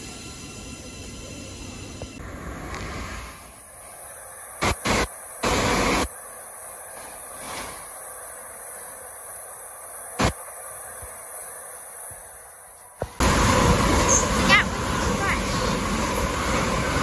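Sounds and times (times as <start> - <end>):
electric train running past: 0.0 - 17.0.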